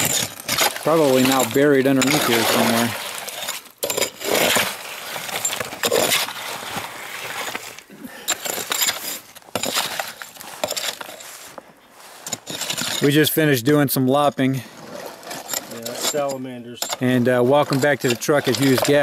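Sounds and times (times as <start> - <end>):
digging tool scraping rocky soil: 0.0 - 13.8, 14.4 - 19.0.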